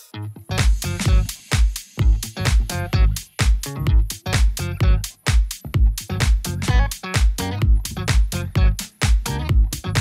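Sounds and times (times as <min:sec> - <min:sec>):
upbeat electronic dance music: 0:00.0 - 0:10.0.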